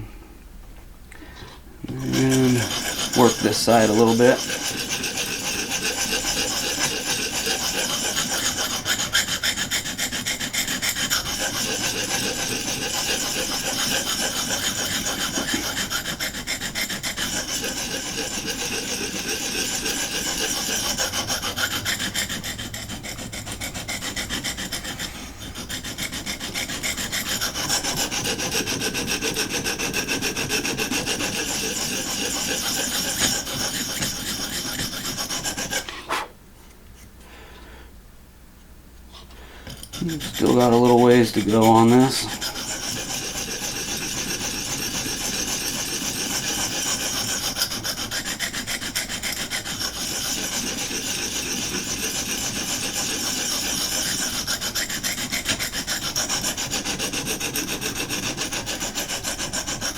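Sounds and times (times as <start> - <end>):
sharpening rod rasping on knife: 1.9 - 36.3, 39.7 - 59.9.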